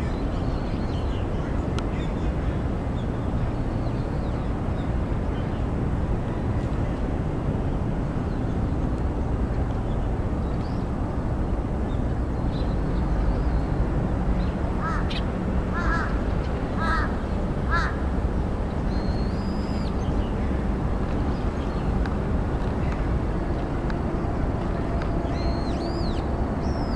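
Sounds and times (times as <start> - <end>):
distant traffic: 0.0 - 26.9
wind: 0.0 - 26.9.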